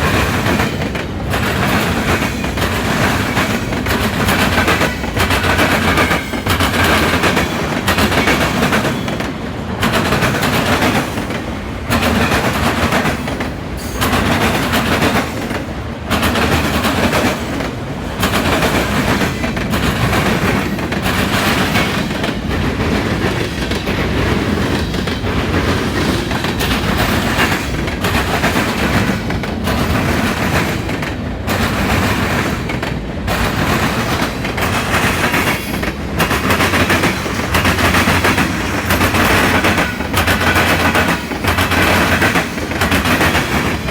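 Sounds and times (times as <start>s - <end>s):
freight train wheels clattering: 0.0s - 43.9s.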